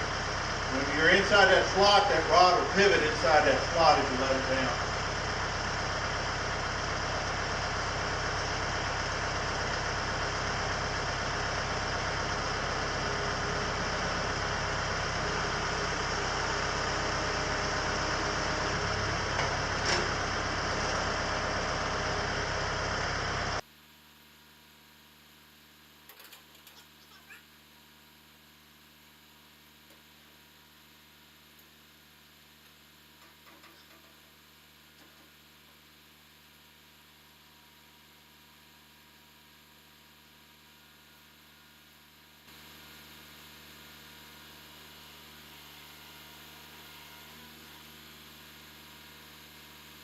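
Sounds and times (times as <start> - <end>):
motor running steadily: 0.0 - 23.7, 26.0 - 50.0.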